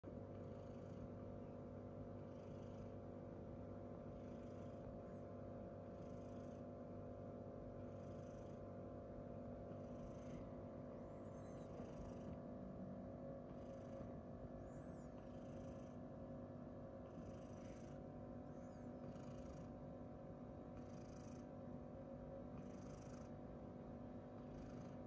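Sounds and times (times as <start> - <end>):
cat purring faintly: 0.1 - 25.0
steady hum: 0.1 - 25.0.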